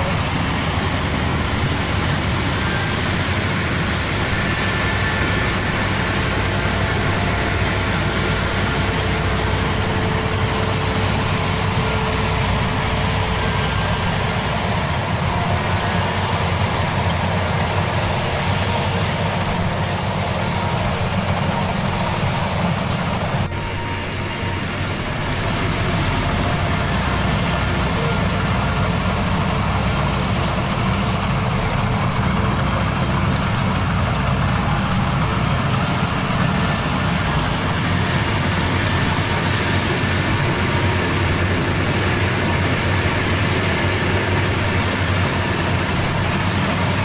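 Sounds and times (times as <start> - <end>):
combine harvester running: 0.0 - 47.0.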